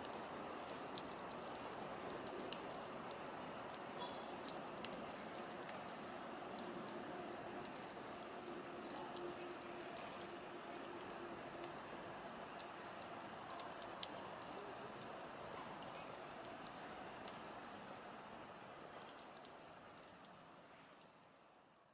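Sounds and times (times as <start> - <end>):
fire crackling and popping: 0.0 - 21.9.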